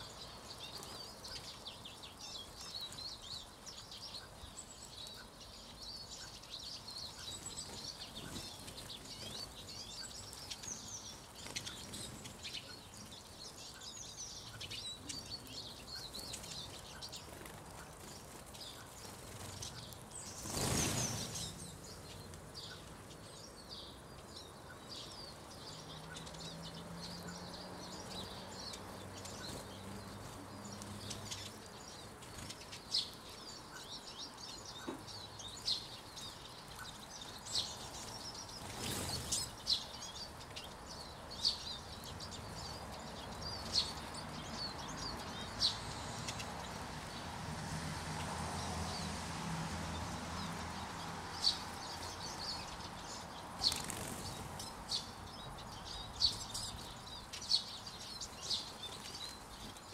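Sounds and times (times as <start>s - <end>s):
birds twittering: 0.0s - 59.9s.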